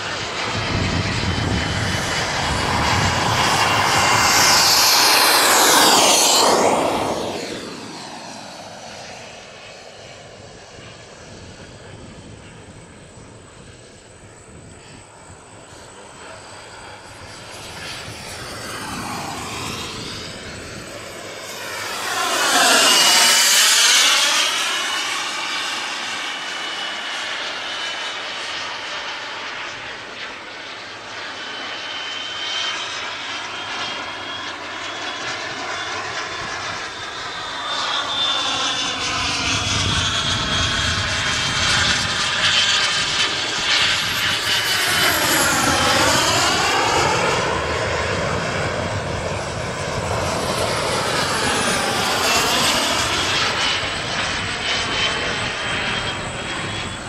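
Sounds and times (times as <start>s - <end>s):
jet flying past overhead: 0.0s - 57.0s.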